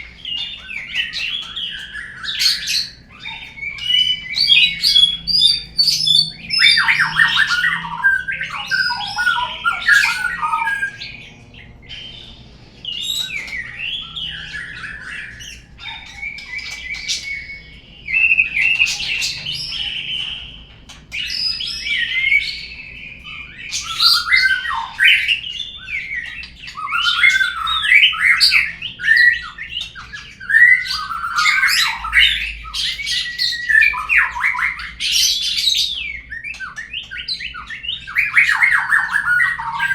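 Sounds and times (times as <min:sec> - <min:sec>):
songbird whistles and chattering calls: 0:00.0 - 0:39.9.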